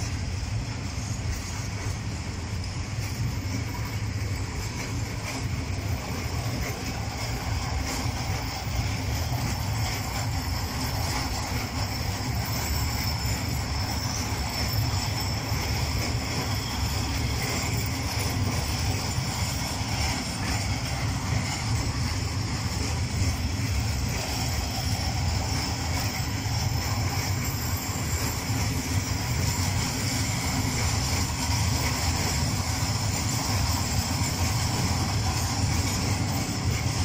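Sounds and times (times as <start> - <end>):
freight train wheels rumbling on rails: 0.0 - 37.0.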